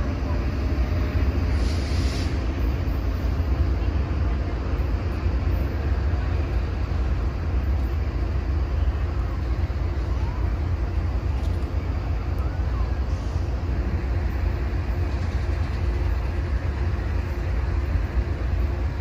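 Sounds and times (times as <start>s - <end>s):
diesel locomotive rumble: 0.0s - 19.0s.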